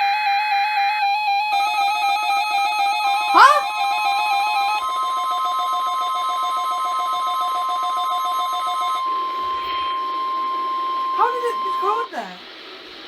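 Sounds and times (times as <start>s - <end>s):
steady high alarm tone: 0.0s - 12.4s
pulsing two-note beeping: 1.5s - 12.2s.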